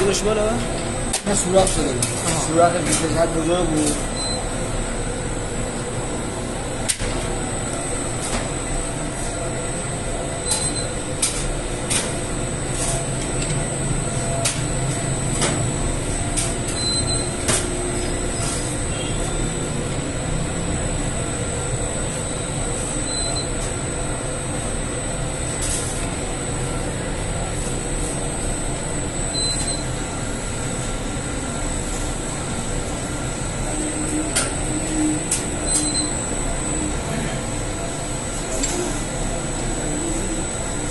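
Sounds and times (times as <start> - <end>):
dough sheeting machine humming: 0.0 - 40.9.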